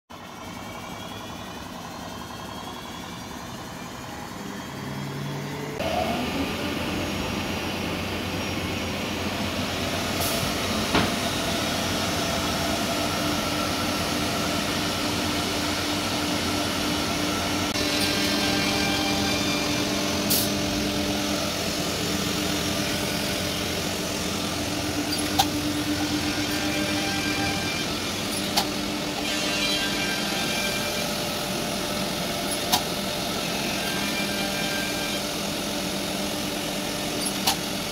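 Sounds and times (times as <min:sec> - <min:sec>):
router machine drone: 0:00.2 - 0:37.9.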